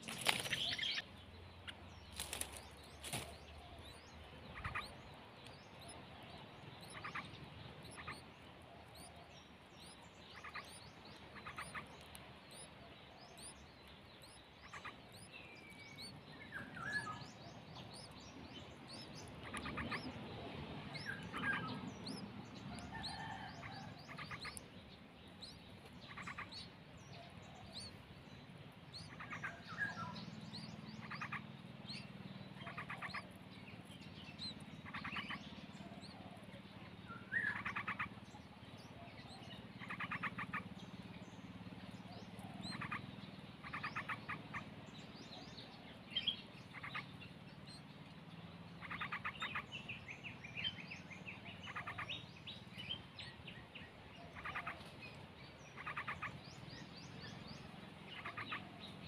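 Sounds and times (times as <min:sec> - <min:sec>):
rapid bird trills: 0:00.0 - 0:24.7, 0:25.3 - 0:59.0
small birds chirping: 0:00.0 - 0:59.0.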